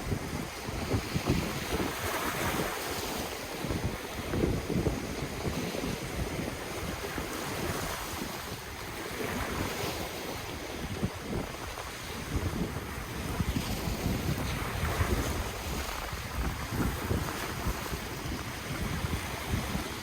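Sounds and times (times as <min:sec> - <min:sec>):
ocean waves washing in: 0:00.0 - 0:20.0
wind gusting on microphone: 0:00.0 - 0:20.0.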